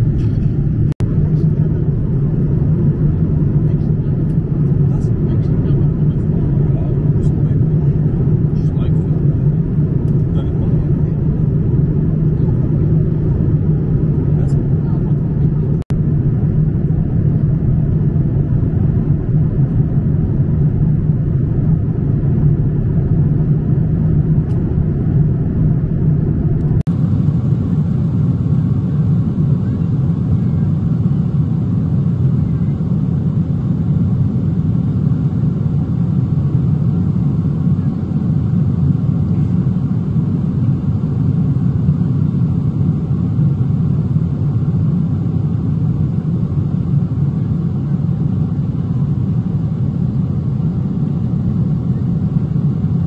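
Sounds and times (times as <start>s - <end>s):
jet airliner cabin drone: 0.0s - 53.0s.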